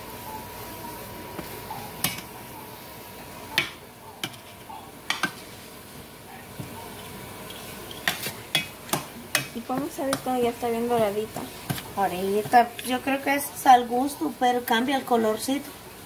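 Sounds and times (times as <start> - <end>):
seeds sizzling in fat: 0.0 - 16.0.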